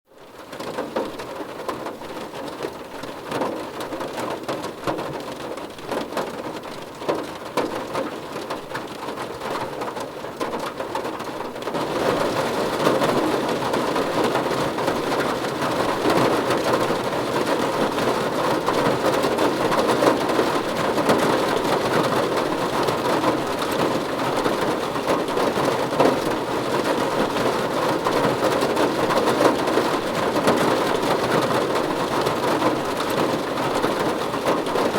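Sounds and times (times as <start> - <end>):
rain on a car roof: 0.1 - 34.9.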